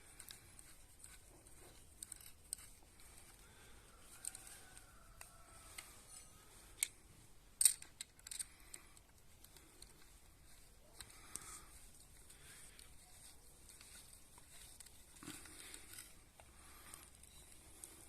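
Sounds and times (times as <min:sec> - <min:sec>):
small metal parts clicking: 0:00.0 - 0:07.0, 0:07.6 - 0:13.0, 0:13.6 - 0:18.0.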